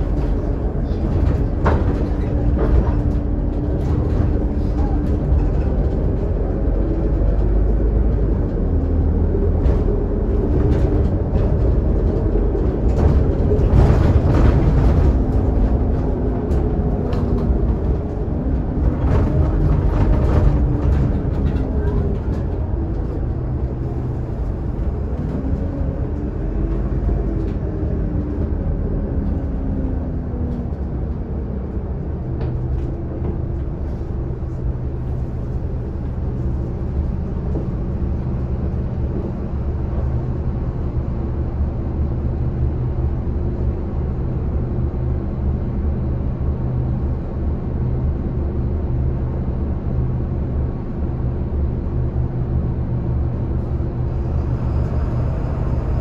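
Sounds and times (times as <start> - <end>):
bus driveline whine: 0.0 - 56.0
diesel bus engine running: 0.0 - 56.0.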